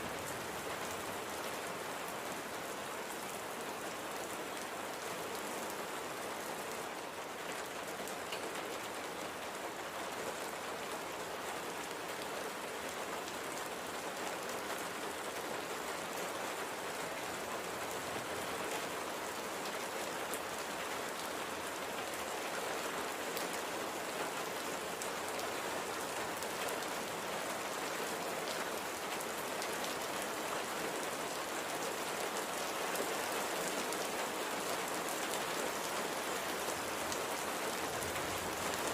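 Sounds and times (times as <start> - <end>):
light rain pattering: 0.0 - 38.9.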